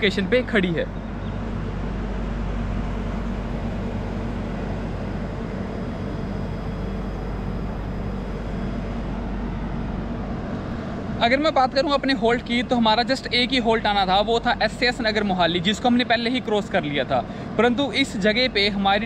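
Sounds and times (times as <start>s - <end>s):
train idling drone and hum: 0.0s - 19.0s.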